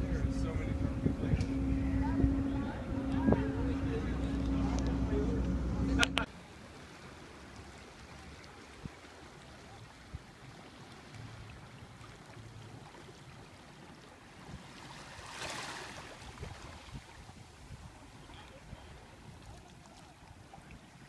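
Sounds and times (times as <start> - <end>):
light wind: 0.0 - 21.0
small waves lapping: 0.0 - 21.0.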